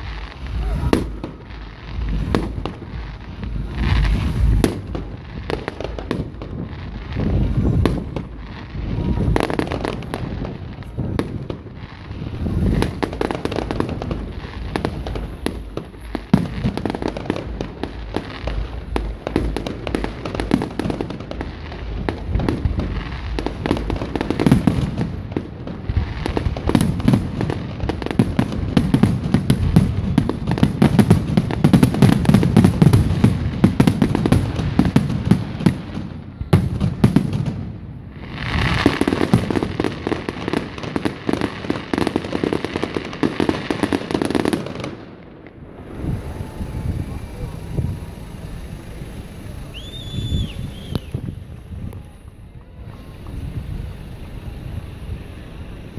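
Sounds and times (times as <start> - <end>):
fireworks bursting: 0.0 - 55.9.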